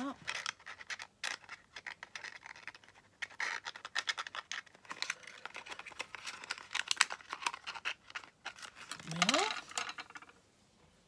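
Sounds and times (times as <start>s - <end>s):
paper lantern rustling and crinkling: 0.0s - 10.4s.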